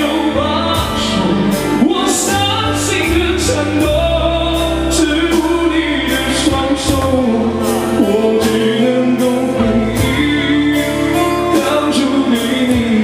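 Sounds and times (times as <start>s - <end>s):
keyboard: 0.0s - 13.0s
person singing: 0.0s - 13.0s
sustained bass notes: 0.0s - 13.0s.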